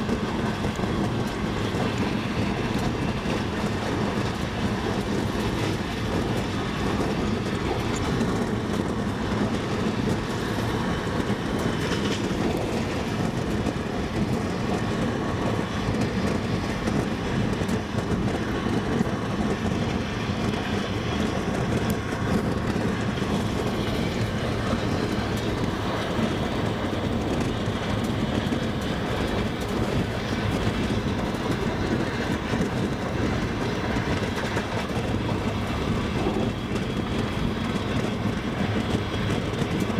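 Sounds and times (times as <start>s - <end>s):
train running noise: 0.0s - 39.9s
train wheels clacking on rails: 0.0s - 39.9s.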